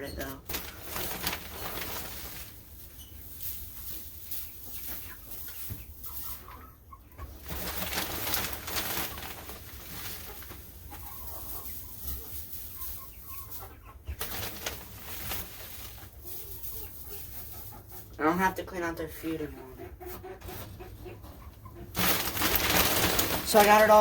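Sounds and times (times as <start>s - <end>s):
chickens clucking: 0.0s - 24.0s
dry rustling of wood shavings: 0.2s - 19.5s, 21.8s - 24.0s.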